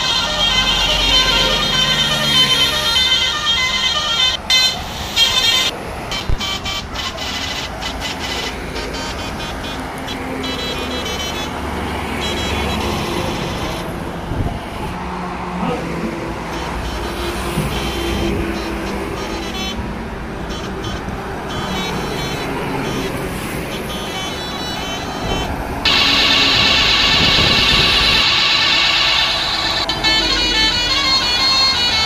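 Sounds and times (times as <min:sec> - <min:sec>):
high-pitched horn toots: 0:00.0 - 0:14.9, 0:15.6 - 0:32.0
low horn tone: 0:00.0 - 0:15.0, 0:15.6 - 0:32.0
trucks and buses passing: 0:00.0 - 0:32.0.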